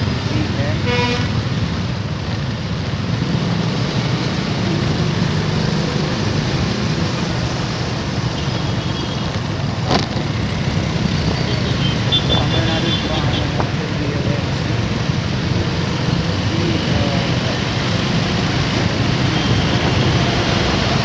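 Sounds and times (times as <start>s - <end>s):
road and traffic noise: 0.0s - 21.0s.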